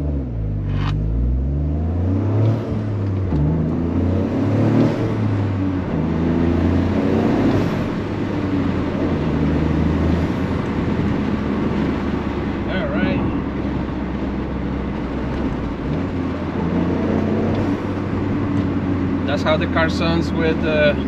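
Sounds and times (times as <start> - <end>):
car engine pulling: 0.0 - 21.0.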